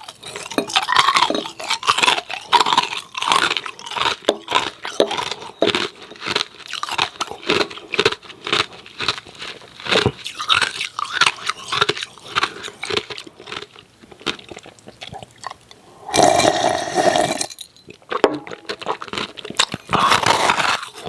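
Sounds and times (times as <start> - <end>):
chewing ice cubes: 0.0 - 21.0.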